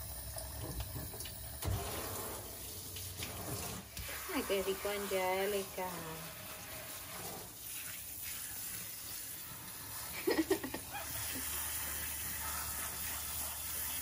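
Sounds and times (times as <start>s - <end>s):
water splashing into a sink: 0.0s - 14.0s.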